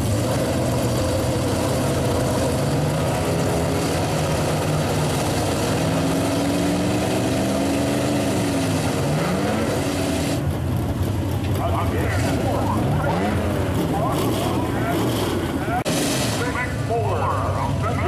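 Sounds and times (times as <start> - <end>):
truck engines revving hard: 0.0 - 18.0.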